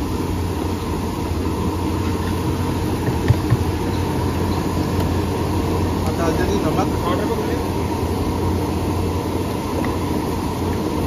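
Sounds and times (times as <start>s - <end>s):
low engine-like rumble: 0.0s - 11.0s.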